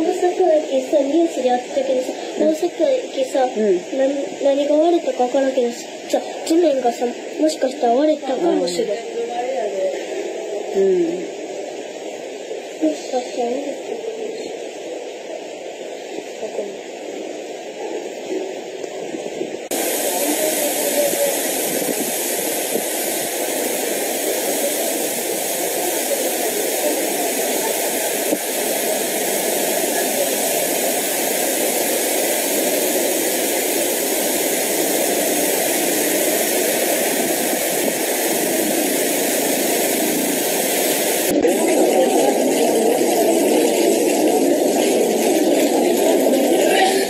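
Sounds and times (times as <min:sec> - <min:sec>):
water rushing from burst main: 0:00.0 - 0:47.0.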